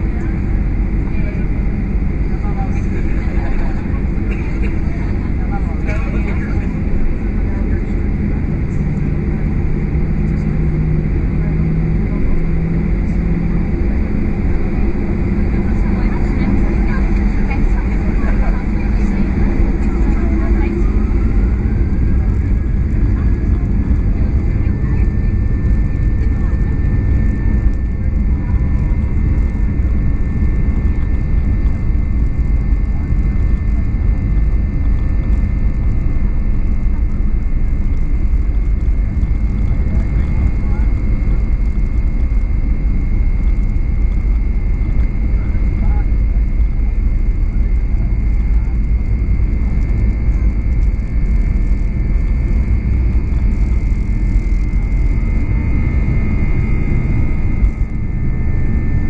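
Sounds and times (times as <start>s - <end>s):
jet engine high whine: 0.0s - 59.0s
jet engine low rumble: 0.0s - 59.0s.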